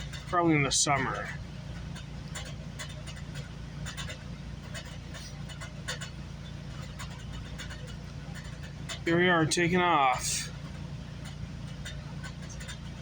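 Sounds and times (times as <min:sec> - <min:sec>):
light clicks and rattles: 0:00.0 - 0:13.0
train coach rumble: 0:00.0 - 0:13.0.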